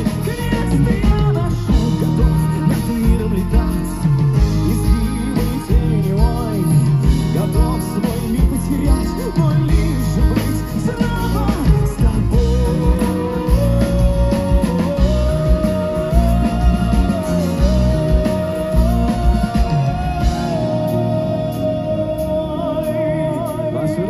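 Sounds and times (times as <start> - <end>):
lead vocal singing: 0.0 - 24.0
live rock band playing: 0.0 - 24.0.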